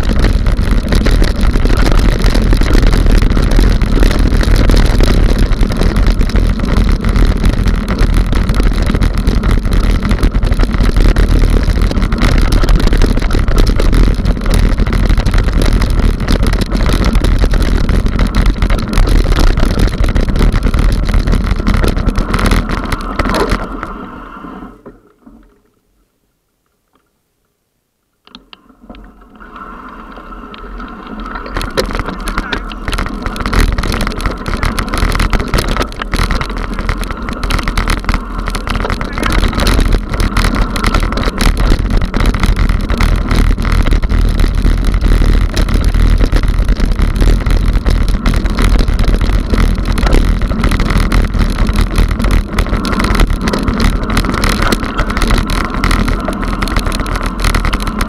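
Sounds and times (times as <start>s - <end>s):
wind on microphone: 0.0s - 24.8s, 29.7s - 58.0s
bike tyre rumble and rattle: 0.0s - 25.9s, 28.3s - 58.0s.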